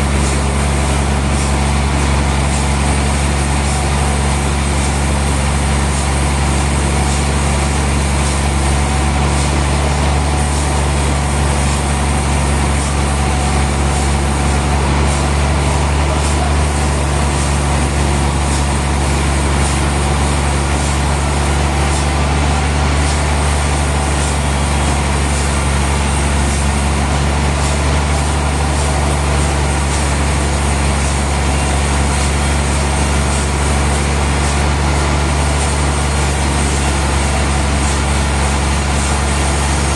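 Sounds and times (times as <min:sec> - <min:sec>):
sawmill machinery engine hum: 0:00.0 - 0:39.9.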